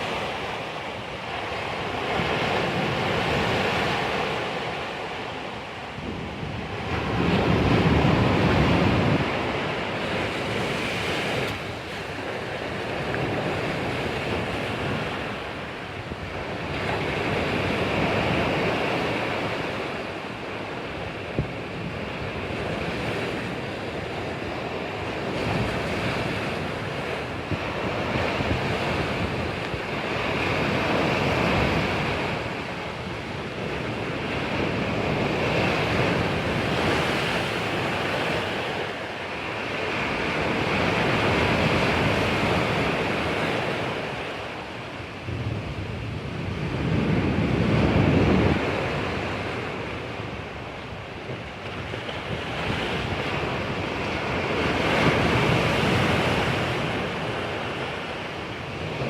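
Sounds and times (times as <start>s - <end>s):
sea waves breaking: 0.0s - 59.0s
wind rumble on microphone: 0.0s - 59.0s.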